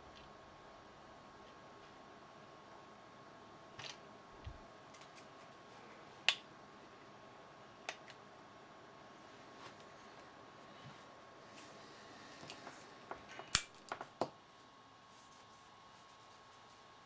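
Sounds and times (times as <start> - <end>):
faint hum with high tone: 0.0 - 17.0.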